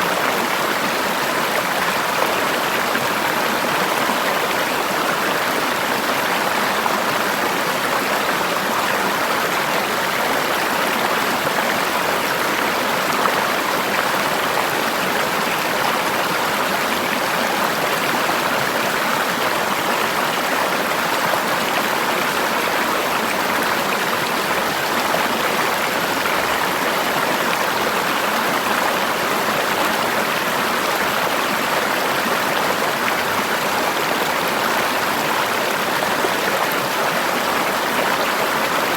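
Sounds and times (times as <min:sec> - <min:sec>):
water flowing over rocks: 0:00.0 - 0:38.9.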